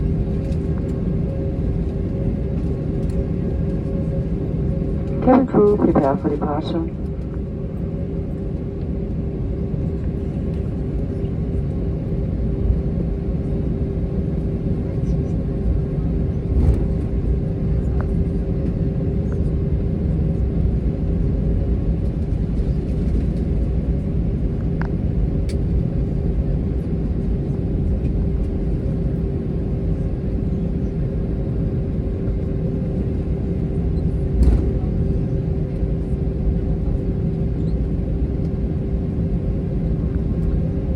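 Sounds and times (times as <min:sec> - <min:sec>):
jet engines humming in cabin: 0:00.0 - 0:40.9.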